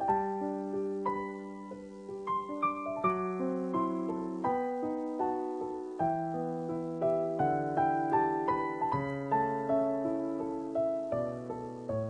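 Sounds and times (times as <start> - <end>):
gentle piano piece: 0.0 - 12.0.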